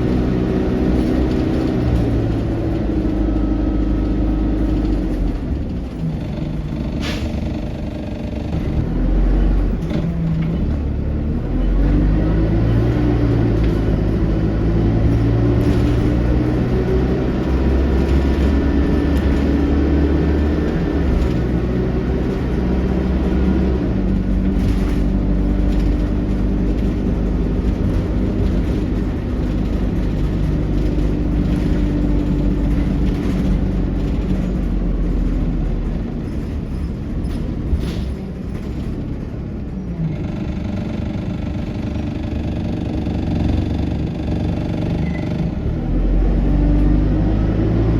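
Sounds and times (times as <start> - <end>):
bus engine drone: 0.0 - 47.9.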